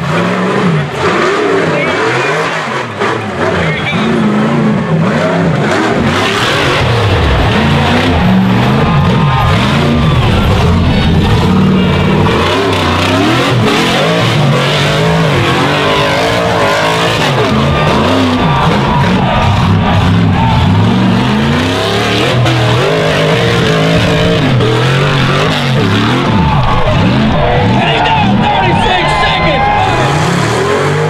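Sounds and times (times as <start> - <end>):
buggy engine revving hard: 0.0 - 31.0.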